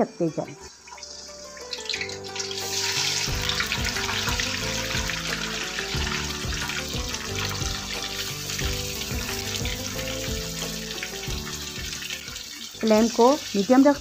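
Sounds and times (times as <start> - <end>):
chicken sizzling in hot oil: 0.3 - 14.0
background music with a beat: 1.0 - 12.8.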